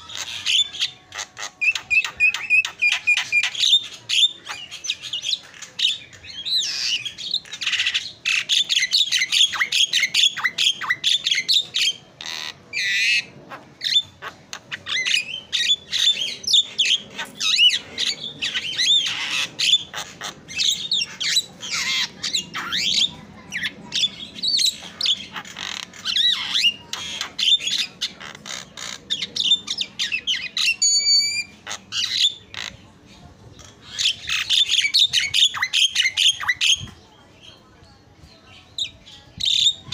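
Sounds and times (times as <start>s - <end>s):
bird chattering and squawking: 0.0s - 37.0s, 38.7s - 39.9s.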